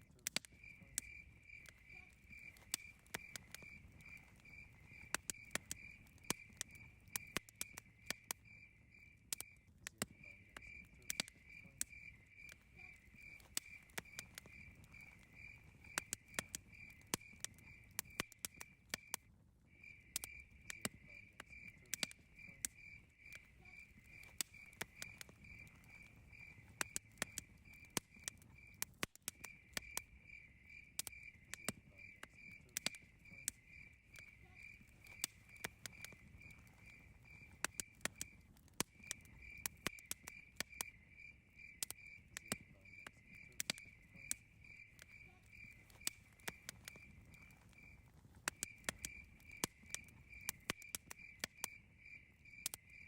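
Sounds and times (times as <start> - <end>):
campfire crackling and popping: 0.0 - 53.0
cricket chirping: 0.1 - 53.0.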